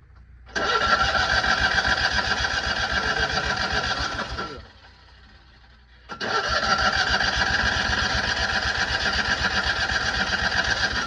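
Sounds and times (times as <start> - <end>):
starter motor cranking engine: 0.5 - 11.0.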